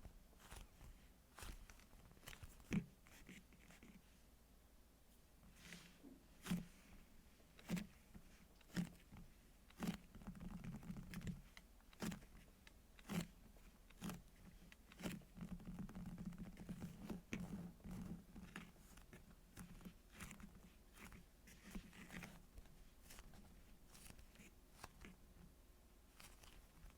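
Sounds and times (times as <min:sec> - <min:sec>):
crinkly rustling: 0:00.0 - 0:04.1, 0:07.6 - 0:25.5, 0:26.1 - 0:26.9.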